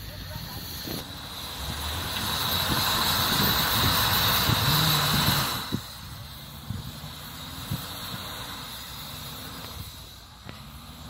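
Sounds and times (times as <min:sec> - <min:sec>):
suv engine revving under load: 0:00.4 - 0:11.0.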